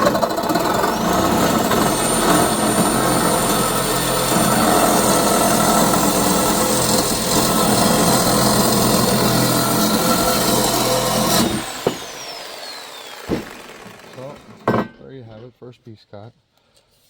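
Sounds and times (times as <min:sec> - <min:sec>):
reciprocating saw cutting steel: 0:00.0 - 0:15.2.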